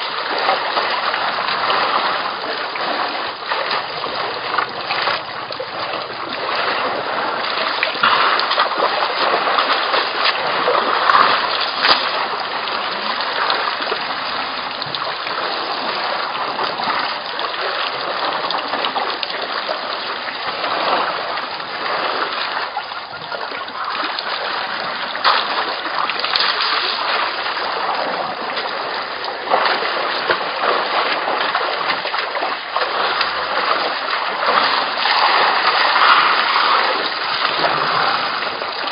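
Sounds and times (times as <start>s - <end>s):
water splashing and sloshing: 0.0s - 38.9s.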